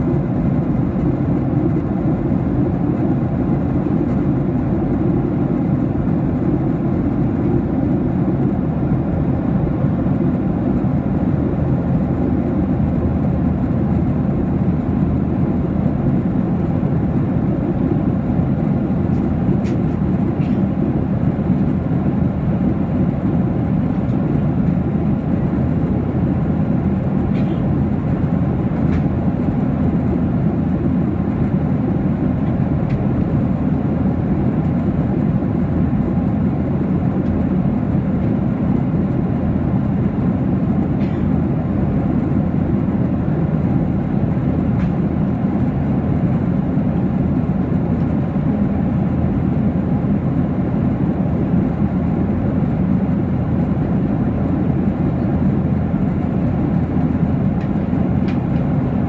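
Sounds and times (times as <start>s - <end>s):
jet engines humming: 0.0s - 59.0s.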